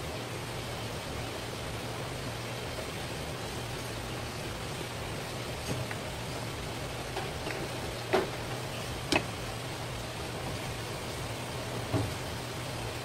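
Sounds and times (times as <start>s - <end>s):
background hiss with hum: 0.0s - 13.0s.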